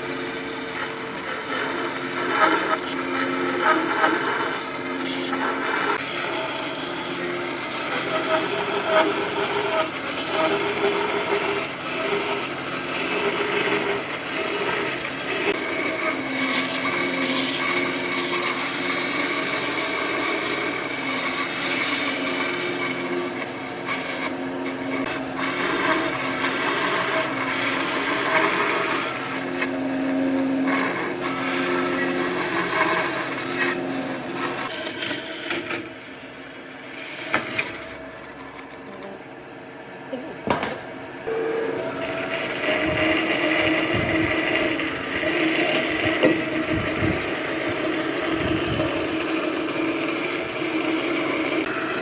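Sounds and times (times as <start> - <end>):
power tool cutting wood: 0.0 - 38.8, 41.3 - 52.0.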